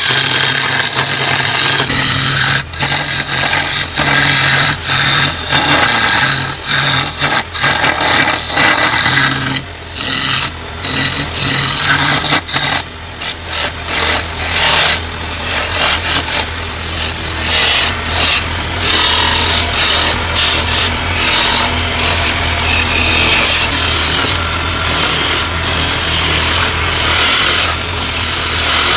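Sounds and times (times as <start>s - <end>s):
tool scraping bamboo root: 0.0s - 28.9s
steady low hum: 1.4s - 28.9s.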